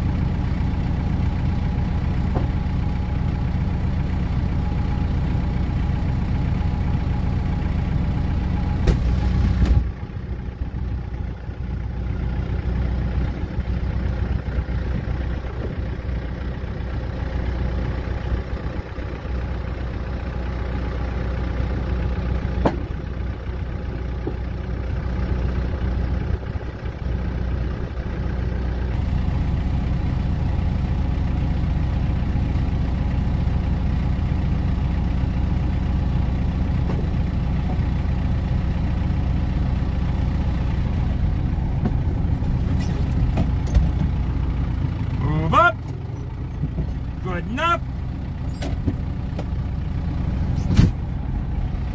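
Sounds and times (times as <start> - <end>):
tractor engine idling: 0.0 - 51.9.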